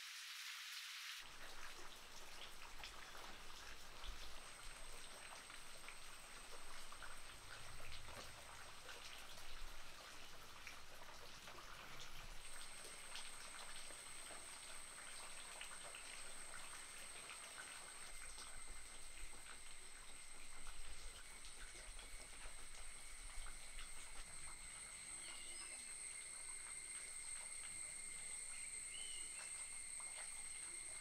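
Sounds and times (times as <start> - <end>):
pot bubbling and popping: 1.2 - 31.0.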